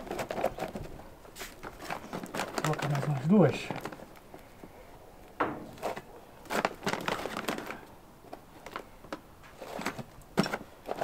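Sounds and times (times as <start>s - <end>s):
plastic bags rustling and crackling: 0.0s - 11.0s.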